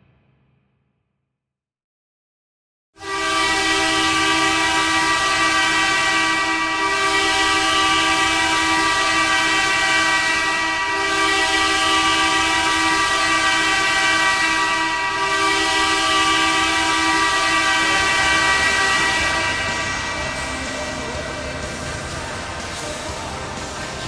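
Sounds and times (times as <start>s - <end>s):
arena goal horn blaring: 3.0s - 24.0s.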